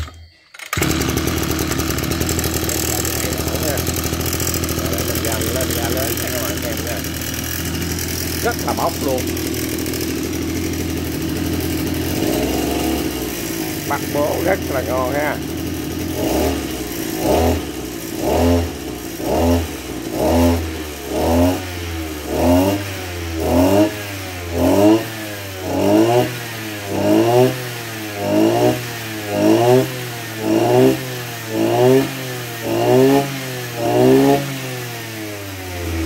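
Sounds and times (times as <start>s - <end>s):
brush cutter engine revving: 0.7s - 36.0s.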